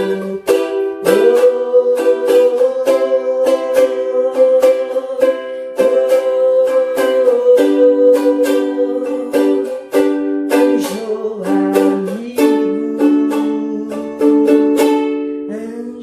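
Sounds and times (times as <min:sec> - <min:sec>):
ukulele strumming chords: 0:00.0 - 0:16.0.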